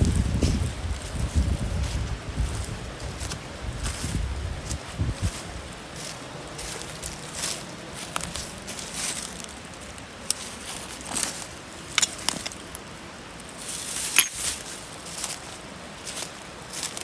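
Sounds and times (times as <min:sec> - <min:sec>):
gear rustling: 0:00.0 - 0:12.9, 0:13.5 - 0:17.0.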